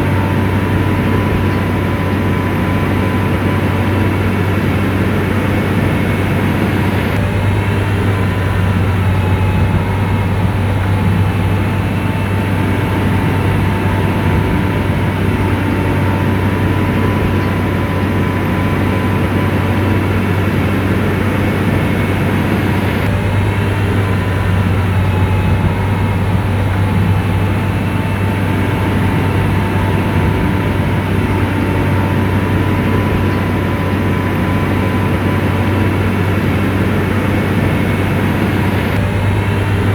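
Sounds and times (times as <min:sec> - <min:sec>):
diesel engine running: 0:00.0 - 0:39.9
faint steady whine: 0:00.0 - 0:39.9.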